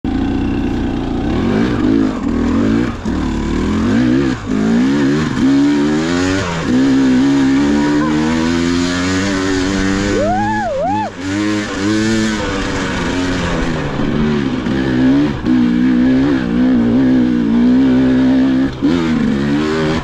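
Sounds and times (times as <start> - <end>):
dirt bike engine revving: 0.1 - 20.0.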